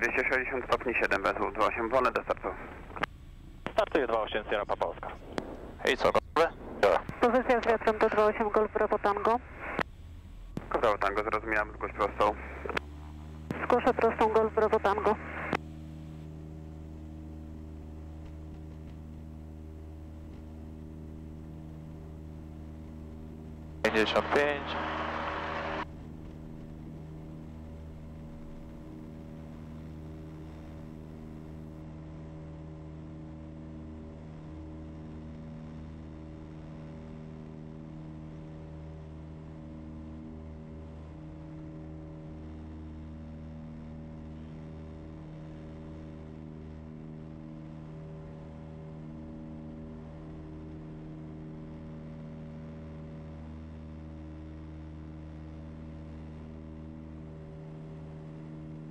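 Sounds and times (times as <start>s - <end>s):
propeller plane engines droning: 0.0s - 58.9s.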